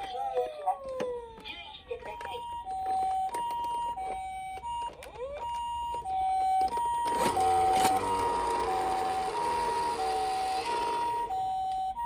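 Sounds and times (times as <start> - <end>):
toy siren two tones: 2.3 - 12.0.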